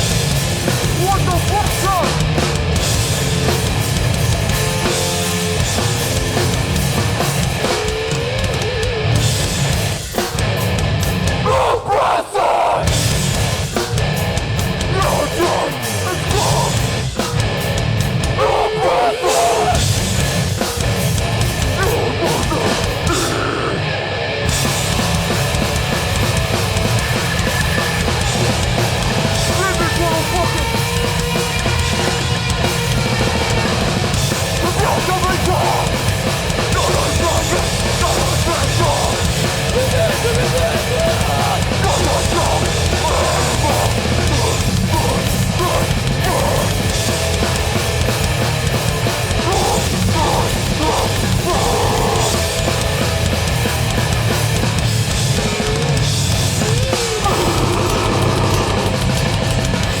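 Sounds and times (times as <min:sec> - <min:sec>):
distorted guitars and bass: 0:00.0 - 1:00.0
pounding drum kit: 0:00.0 - 1:00.0.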